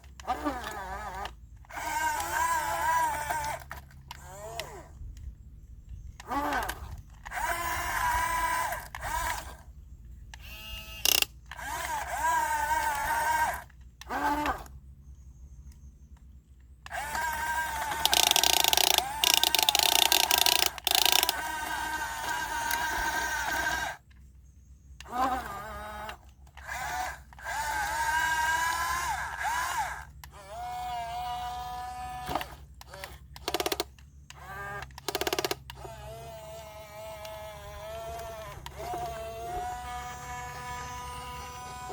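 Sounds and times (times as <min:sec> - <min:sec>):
hydraulic pump whining: 0:00.0 - 0:16.2, 0:16.8 - 0:41.9.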